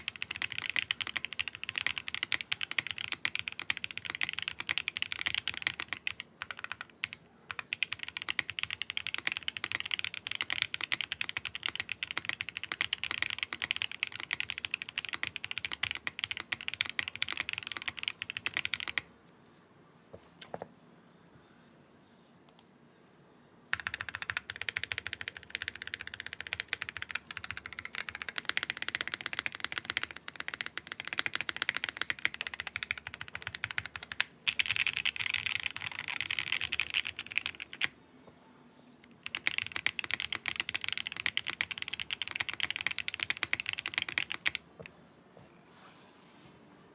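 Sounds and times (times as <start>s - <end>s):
clacky keyboard typing: 0.0s - 19.1s, 23.7s - 38.0s, 39.1s - 45.0s.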